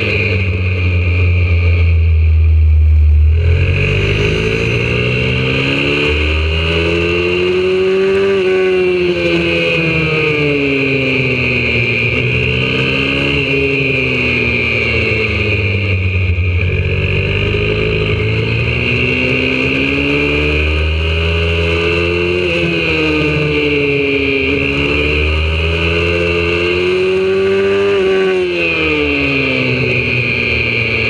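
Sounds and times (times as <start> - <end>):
motorbike engine revving: 0.0 - 31.0.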